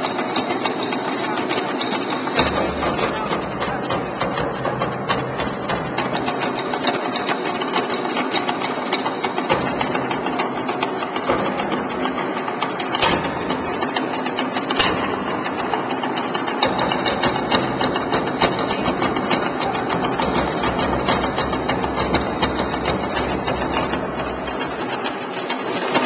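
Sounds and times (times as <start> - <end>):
fast percussion music: 0.4 - 25.3.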